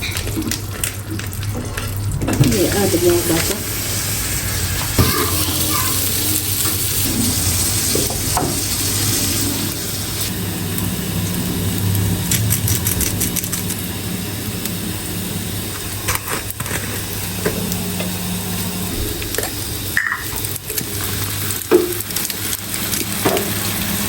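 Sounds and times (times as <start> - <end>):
butter sizzling in a frying pan: 0.1 - 24.0.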